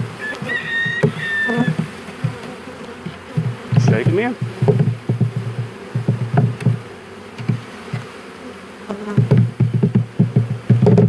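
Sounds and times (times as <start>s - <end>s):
dull thumps on bee package: 0.0s - 8.3s, 8.9s - 11.0s
honeybees buzzing: 0.0s - 11.0s.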